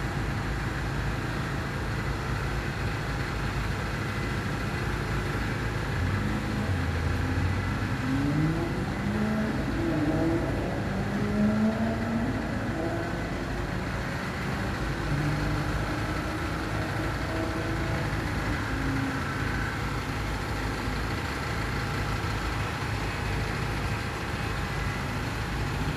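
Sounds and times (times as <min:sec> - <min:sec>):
concrete finishing machine engine: 0:00.0 - 0:25.9.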